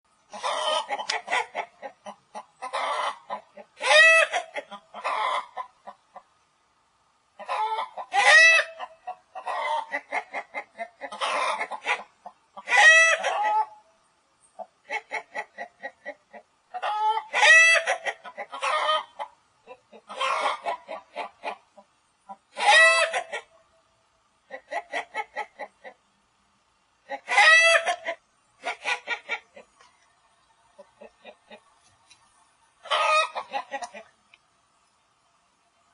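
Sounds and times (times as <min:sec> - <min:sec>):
chicken clucking and squawking: 0:00.3 - 0:06.4, 0:07.4 - 0:13.9, 0:14.6 - 0:23.8, 0:24.4 - 0:26.2, 0:27.0 - 0:31.8, 0:32.8 - 0:34.2.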